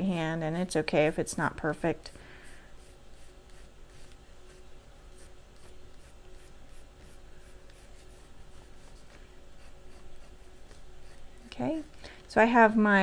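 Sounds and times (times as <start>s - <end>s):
pencil scratching on paper: 0.0s - 11.9s.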